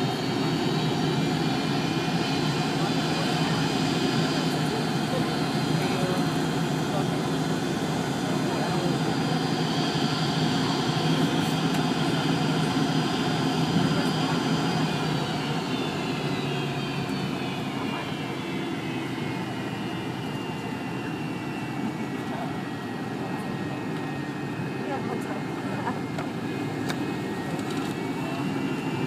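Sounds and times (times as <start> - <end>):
jet engines rumbling with high whine: 0.0 - 29.0.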